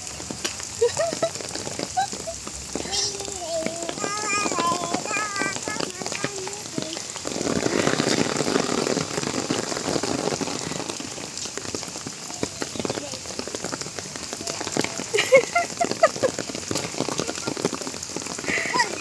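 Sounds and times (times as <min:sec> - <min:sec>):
rain on a hard surface: 0:00.0 - 0:19.0.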